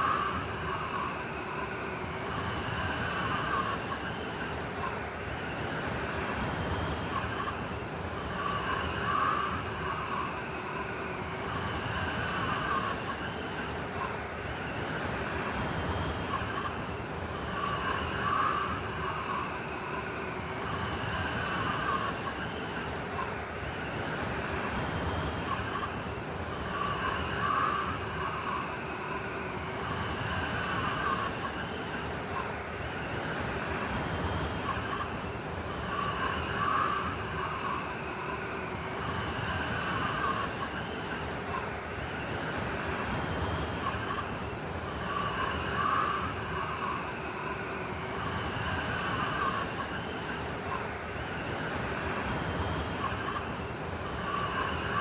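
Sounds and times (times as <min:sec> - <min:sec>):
howling blizzard wind: 0:00.0 - 0:55.0.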